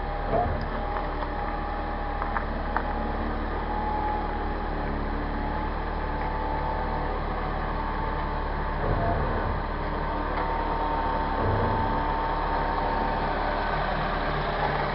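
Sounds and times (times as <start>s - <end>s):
car engine running at low revs: 0.0s - 14.9s.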